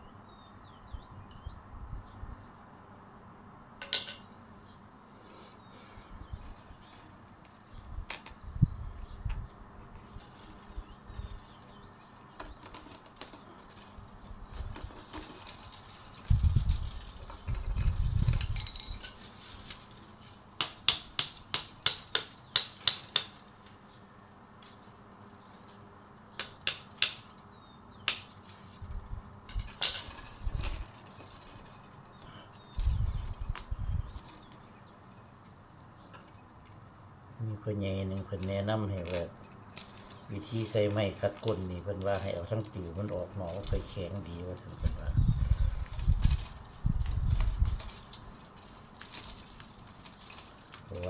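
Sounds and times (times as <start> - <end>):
bamboo strips rubbing and knocking: 6.4 - 24.0, 24.6 - 37.0, 38.0 - 51.0
bamboo strips clicking and rustling: 6.4 - 37.2, 38.0 - 51.0.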